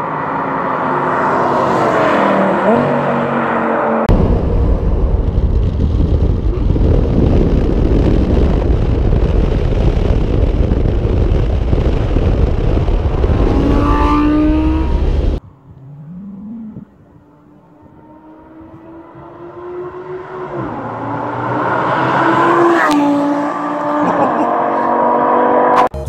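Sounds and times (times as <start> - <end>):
car engine accelerating: 0.0 - 15.4, 16.1 - 25.9
rushing wind: 0.0 - 15.9, 16.6 - 25.8
car road noise: 0.0 - 26.0.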